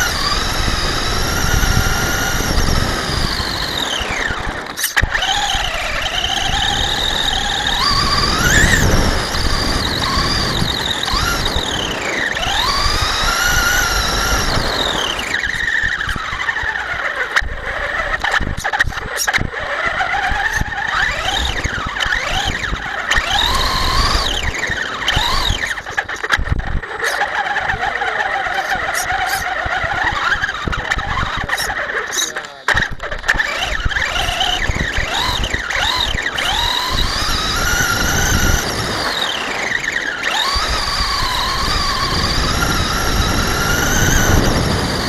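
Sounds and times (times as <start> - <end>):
electric motor whining: 0.0 - 45.0.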